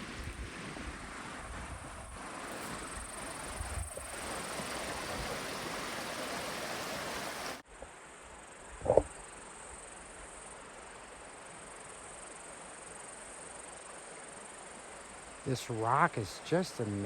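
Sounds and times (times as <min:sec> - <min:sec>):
crickets trilling: 0:00.7 - 0:07.4, 0:08.3 - 0:17.0.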